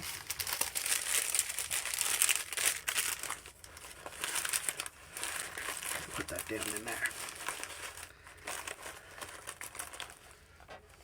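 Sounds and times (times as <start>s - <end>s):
plastic bags crinkling and rustling: 0.0s - 11.0s.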